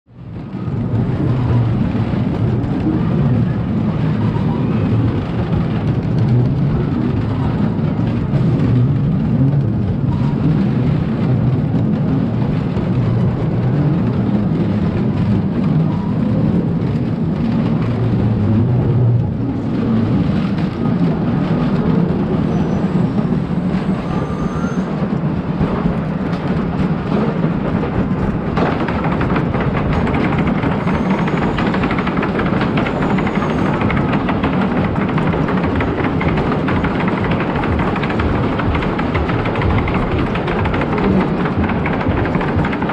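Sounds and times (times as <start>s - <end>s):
roller coaster rumbling on track: 0.0s - 42.9s.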